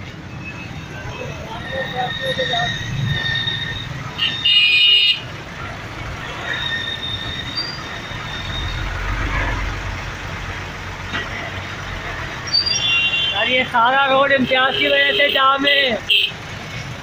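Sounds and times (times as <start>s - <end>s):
traffic engines running: 0.0s - 17.0s.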